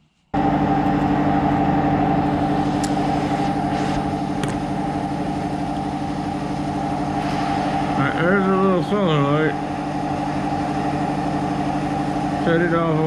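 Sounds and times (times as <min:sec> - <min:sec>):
machine hum: 0:00.3 - 0:13.0.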